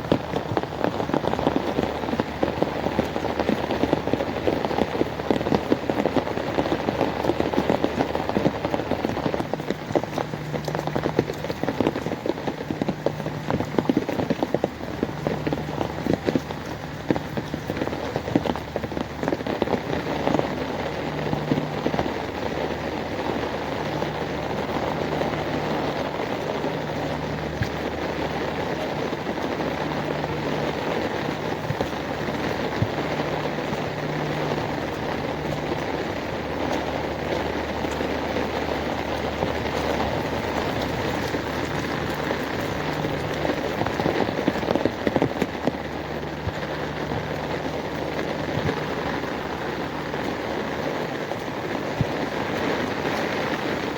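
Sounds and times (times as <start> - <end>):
low mechanical hum: 0.0 - 53.9
rain splashing on hard surfaces: 0.0 - 53.9.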